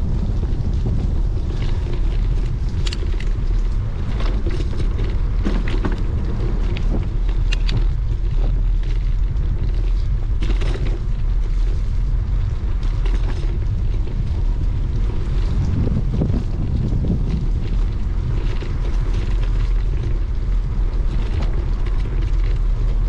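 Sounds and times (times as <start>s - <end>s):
bicycle clicks and rattles: 0.0s - 23.0s
wind buffeting microphone: 0.0s - 23.0s.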